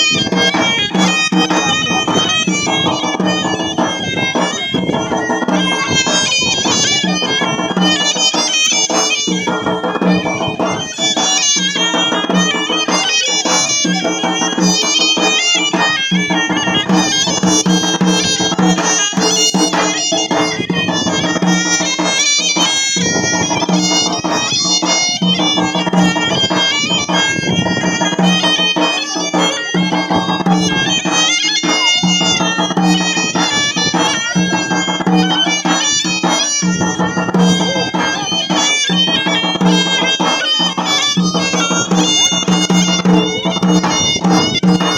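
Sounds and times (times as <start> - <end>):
bagpipe-like melody over drone: 0.0 - 44.9
percussion beating: 0.0 - 44.9.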